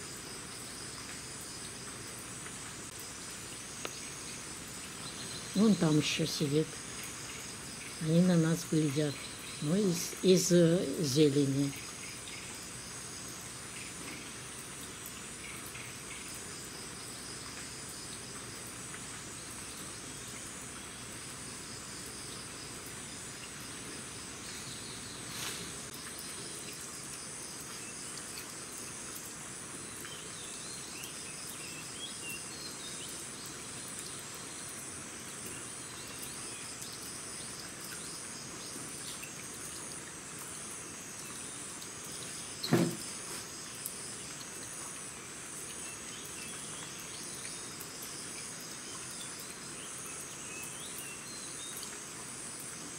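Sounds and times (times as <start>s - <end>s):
insects buzzing and trilling: 0.0s - 52.9s.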